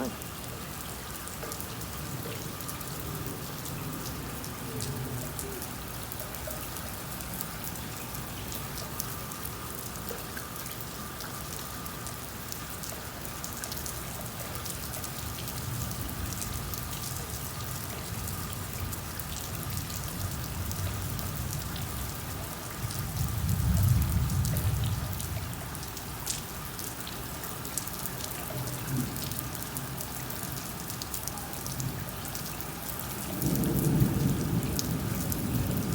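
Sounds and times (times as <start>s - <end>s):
rain falling on surfaces: 0.0s - 35.9s.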